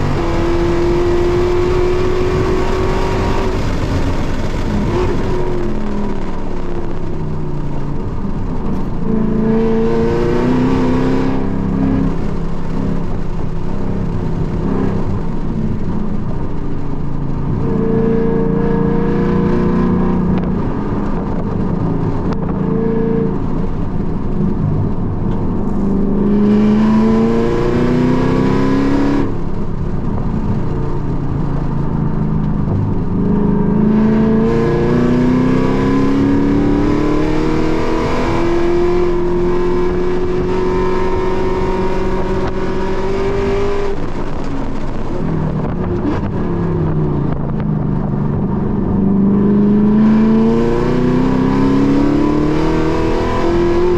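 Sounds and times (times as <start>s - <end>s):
car engine revving through gears: 0.0s - 53.9s
tyre and wind noise: 0.0s - 53.9s.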